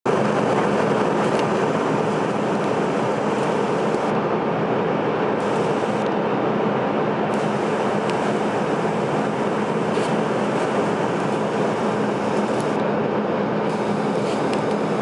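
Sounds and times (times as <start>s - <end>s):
airflow and jet engine noise: 0.0s - 15.0s
faint hum: 0.1s - 15.0s.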